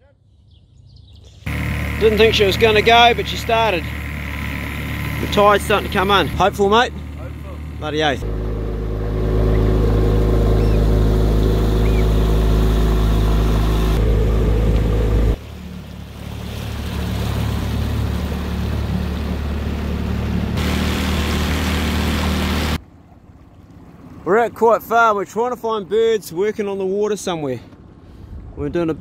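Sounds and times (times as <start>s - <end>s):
outboard motor drone: 1.4s - 26.7s.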